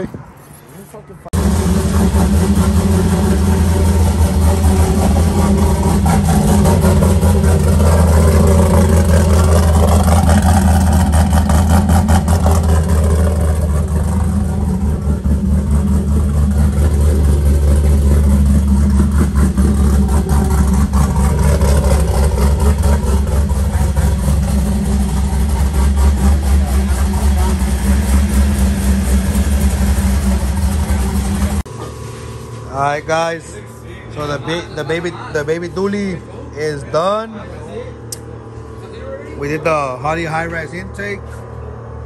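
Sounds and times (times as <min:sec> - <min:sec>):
engine idling: 0:00.8 - 0:42.0.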